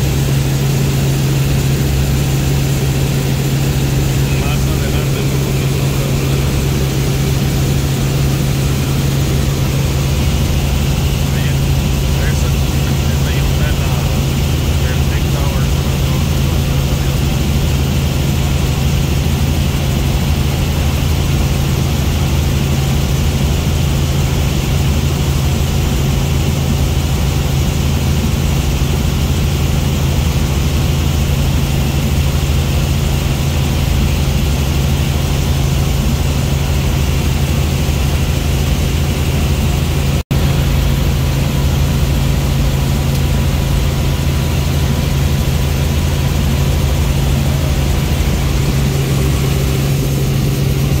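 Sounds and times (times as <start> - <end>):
helicopter engine and rotor: 0.0 - 51.0.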